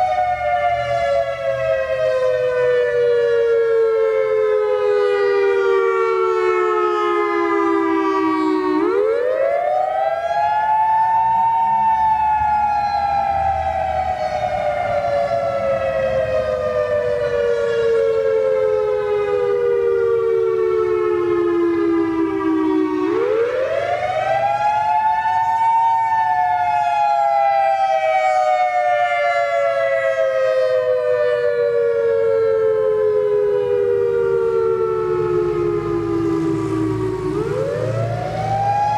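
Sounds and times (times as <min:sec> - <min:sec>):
electronic siren wailing: 0:00.0 - 0:38.9.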